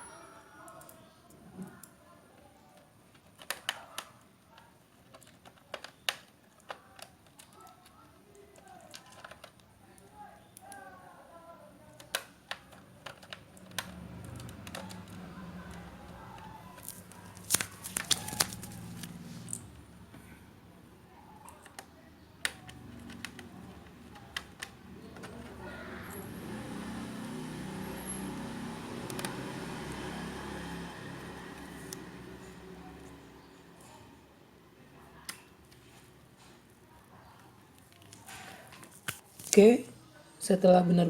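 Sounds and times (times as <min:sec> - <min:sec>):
low background murmur: 0:00.0 - 0:41.0.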